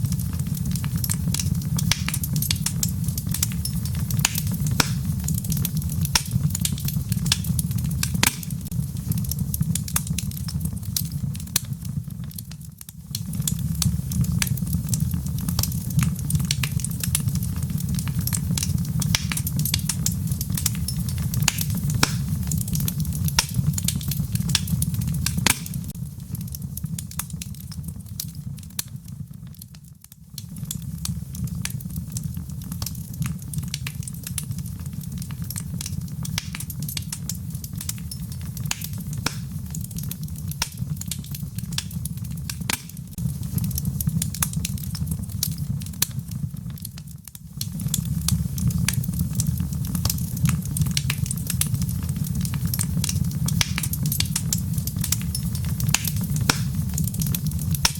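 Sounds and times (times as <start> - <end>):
rain patter: 0.0 - 57.9
wood fire crackling: 0.0 - 57.9.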